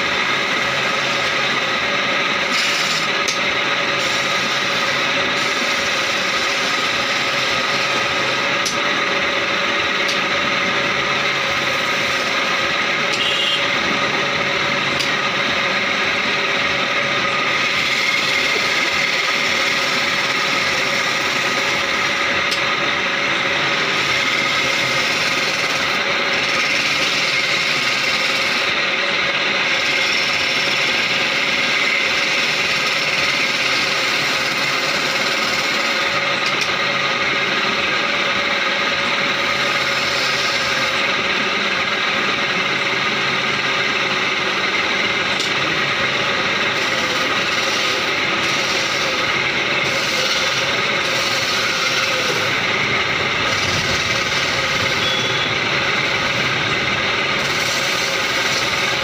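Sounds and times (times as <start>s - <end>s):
chisel scraping spinning wood: 0.0s - 13.3s, 14.0s - 55.3s, 55.9s - 59.0s
wood lathe running: 0.0s - 59.0s.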